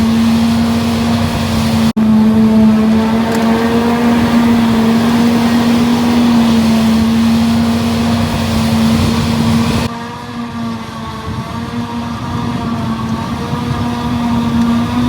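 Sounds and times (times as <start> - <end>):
diesel farm machinery running: 0.0 - 15.0
steady whine: 0.0 - 15.0.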